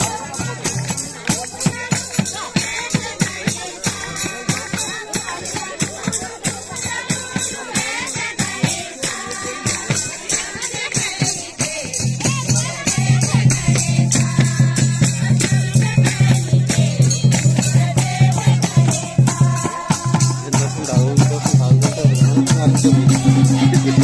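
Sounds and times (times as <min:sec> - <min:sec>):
folk singing: 0:00.0 - 0:24.0
rattling percussion beat: 0:00.0 - 0:24.0.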